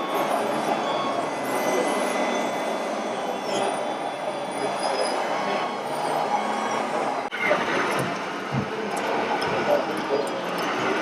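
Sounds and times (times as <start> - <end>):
busy hall din: 0.0 - 11.0.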